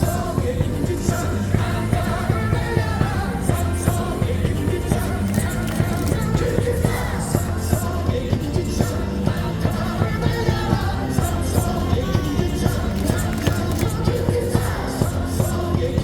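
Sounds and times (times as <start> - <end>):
crowd singing cheer song: 0.0 - 16.0.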